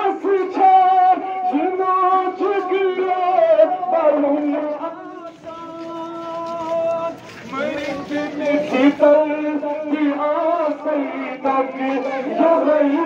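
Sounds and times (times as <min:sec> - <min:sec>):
man chanting through a microphone: 0:00.0 - 0:13.0.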